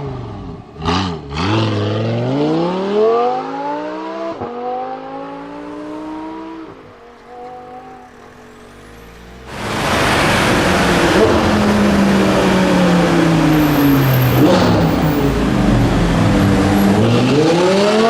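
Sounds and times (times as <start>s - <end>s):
sports car engine revving: 0.0s - 18.0s.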